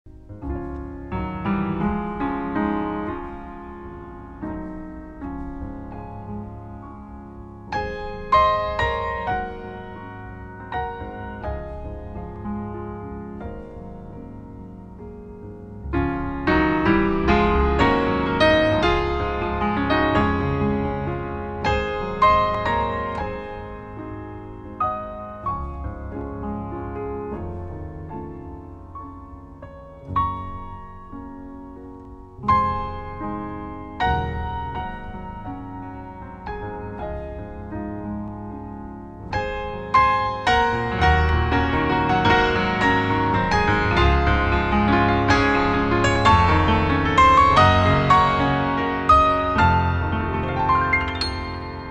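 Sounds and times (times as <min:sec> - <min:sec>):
slow piano chords: 0:00.1 - 0:51.9.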